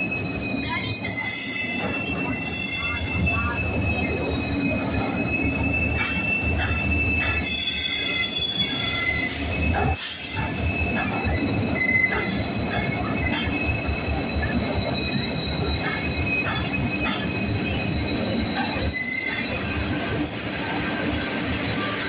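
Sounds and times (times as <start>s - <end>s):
low locomotive engine rumble: 0.0s - 22.0s
wheel and brake squeal: 0.1s - 22.0s.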